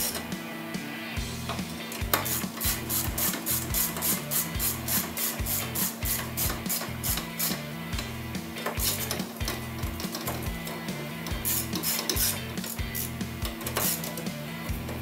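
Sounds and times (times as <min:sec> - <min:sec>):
hand ratchet clicking: 0:01.5 - 0:15.0.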